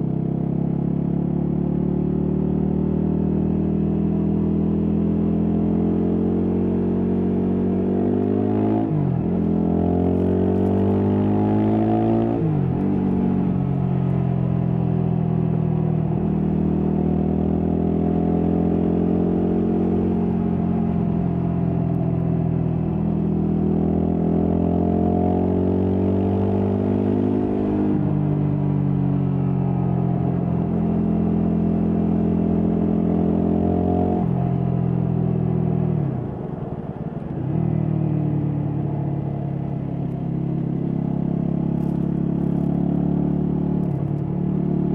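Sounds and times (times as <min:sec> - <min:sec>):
motorcycle engine revving: 0:00.0 - 0:29.2, 0:29.8 - 0:36.4, 0:37.5 - 0:44.9.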